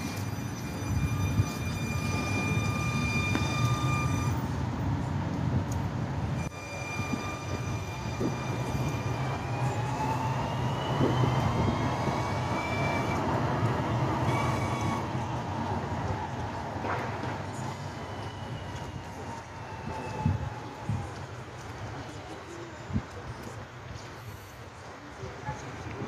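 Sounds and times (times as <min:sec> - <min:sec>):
tram electric whine: 0:00.0 - 0:25.9.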